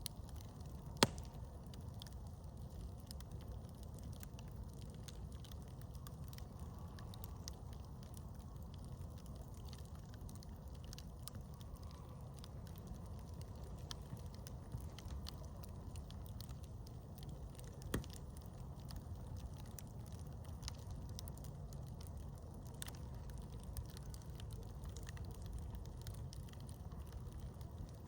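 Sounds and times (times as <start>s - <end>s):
campfire crackling and popping: 0.0s - 28.0s
low steady rumble: 0.0s - 28.0s.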